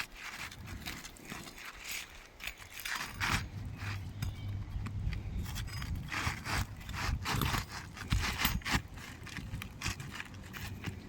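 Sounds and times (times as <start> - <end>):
scraping under shingles: 0.0 - 11.0.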